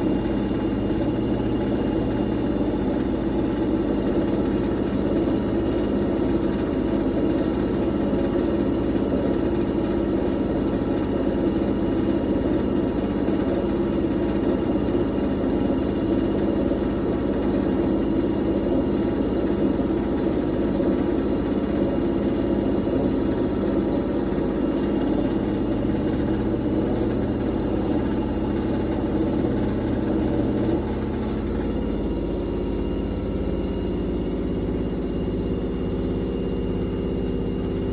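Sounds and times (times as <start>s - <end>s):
washing machine drum spinning: 0.0s - 37.9s.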